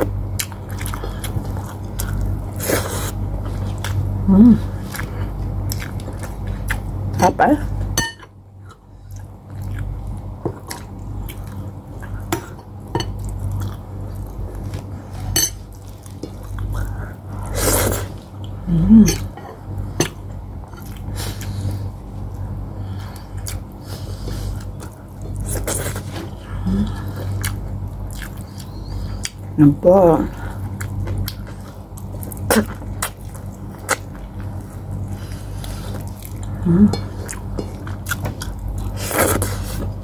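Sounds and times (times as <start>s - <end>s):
person chewing: 0.0s - 6.9s, 8.6s - 19.4s, 20.0s - 29.5s, 30.6s - 40.0s
low hum: 0.0s - 40.0s.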